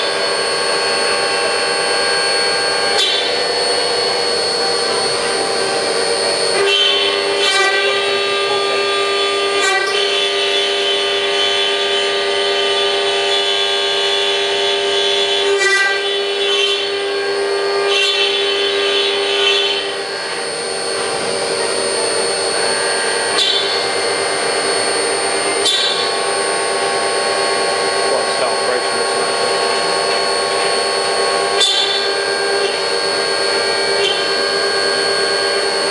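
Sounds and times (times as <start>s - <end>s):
milling machine whine: 0.0s - 35.9s.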